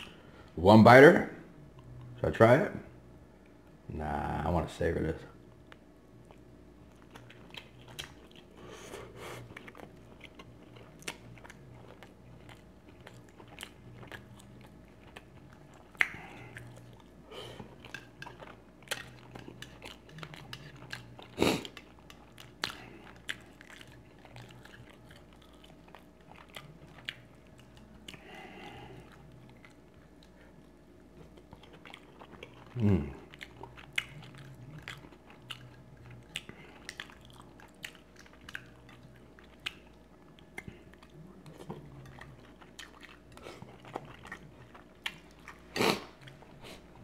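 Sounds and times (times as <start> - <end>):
chewing and biting food: 5.7 - 47.0.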